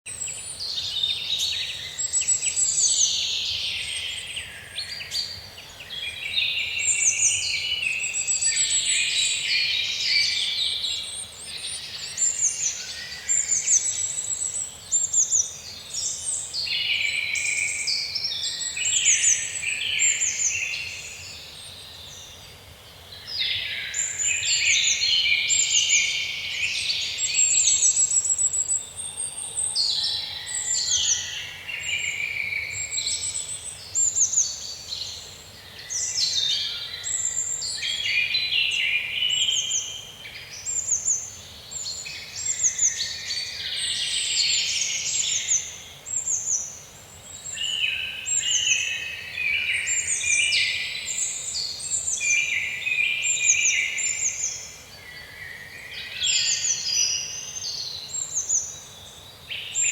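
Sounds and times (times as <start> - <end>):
songbirds chirping and trilling: 0.1 - 59.9.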